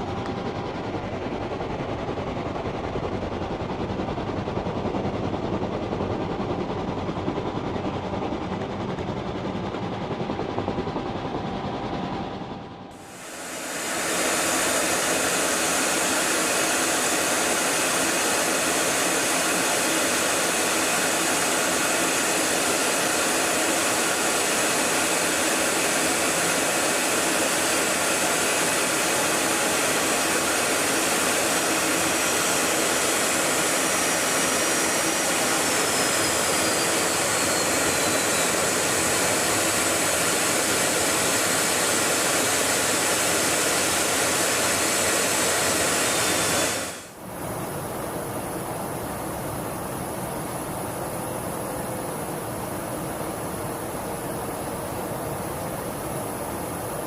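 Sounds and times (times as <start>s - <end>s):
jet engine roaring with whine: 0.0s - 57.0s.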